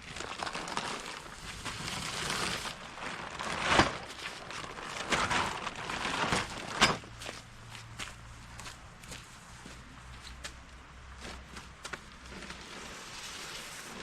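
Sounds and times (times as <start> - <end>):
rustling crinkling noise: 0.0 - 14.0.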